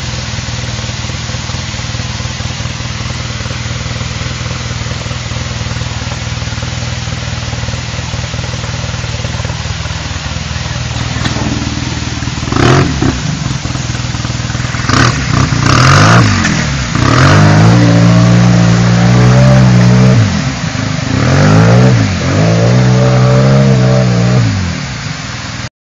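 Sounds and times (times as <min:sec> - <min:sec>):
vehicle engine revving: 0:00.0 - 0:25.6.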